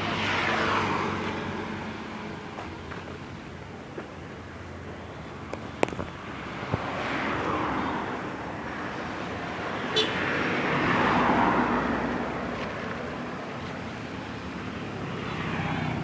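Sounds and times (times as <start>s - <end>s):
road vehicles passing by: 0.0s - 16.0s.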